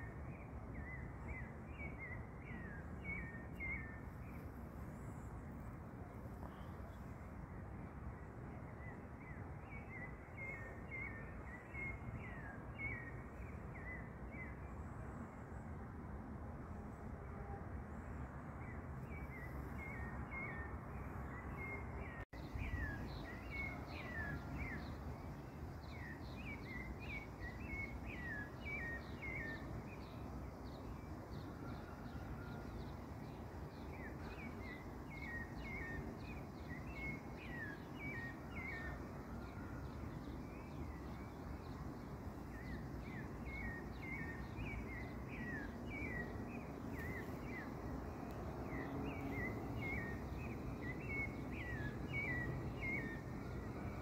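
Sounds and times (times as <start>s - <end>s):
low background noise: 0.0s - 54.0s.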